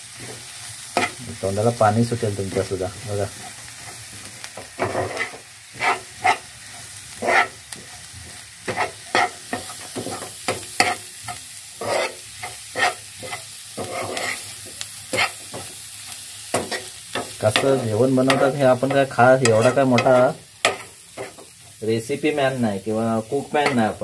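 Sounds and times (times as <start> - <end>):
food sizzling in a pan: 0.0 - 24.0
metal spatula scraping a pan: 0.1 - 1.2, 3.4 - 21.6.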